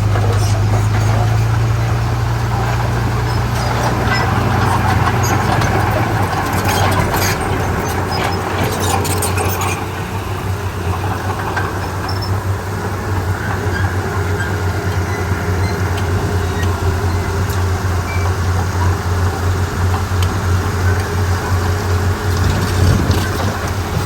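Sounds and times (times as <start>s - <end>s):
bulldozer diesel engine humming: 0.0s - 24.0s.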